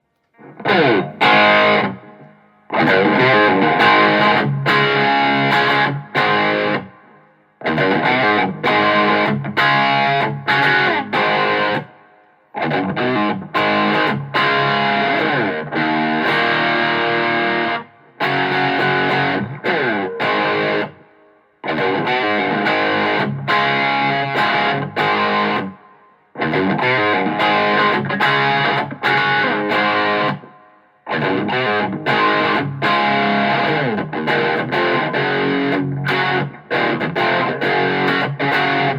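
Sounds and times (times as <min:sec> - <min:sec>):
overdriven electric guitar riff: 0:00.3 - 0:38.9.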